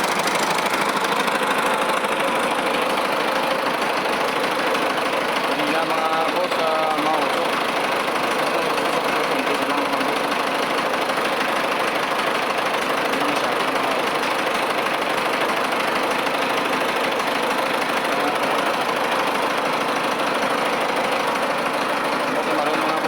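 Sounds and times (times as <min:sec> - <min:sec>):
tractor engine idling: 0:00.0 - 0:23.0.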